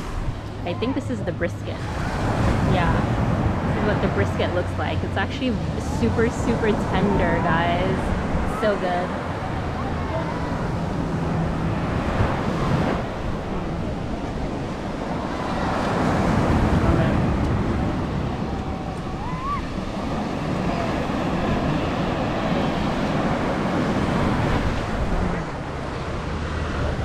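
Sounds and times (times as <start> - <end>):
wind buffeting microphone: 0.0 - 27.0
surf breaking on shore: 1.8 - 27.0.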